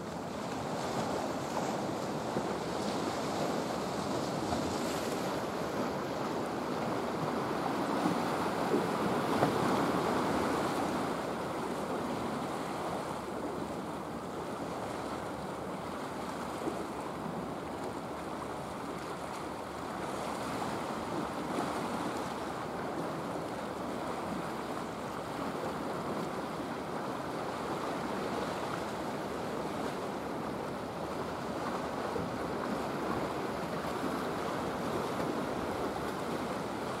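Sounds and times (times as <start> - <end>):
wind: 0.0 - 37.0.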